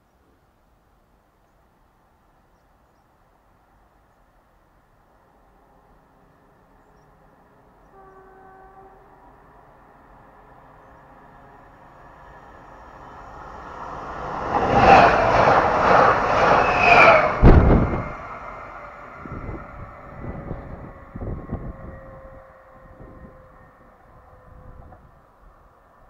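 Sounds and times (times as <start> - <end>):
passenger train passing: 3.1 - 26.0.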